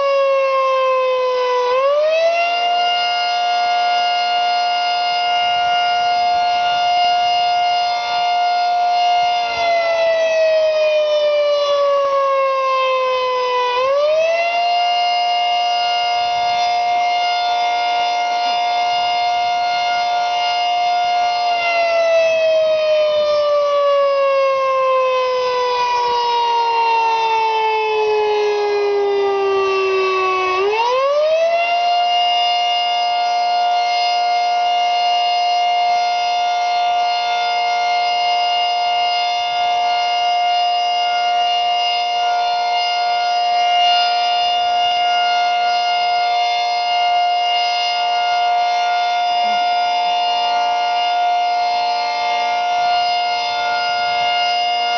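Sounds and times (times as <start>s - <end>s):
outdoor warning siren winding: 0.0s - 54.9s.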